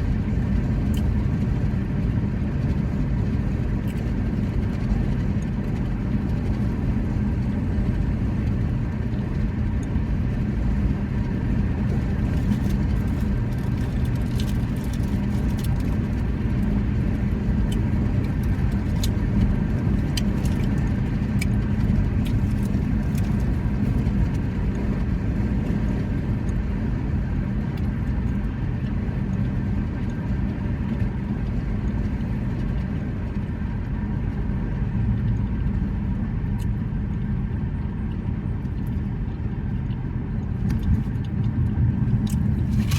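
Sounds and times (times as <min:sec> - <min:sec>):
low mechanical rumble: 0:00.0 - 0:42.9.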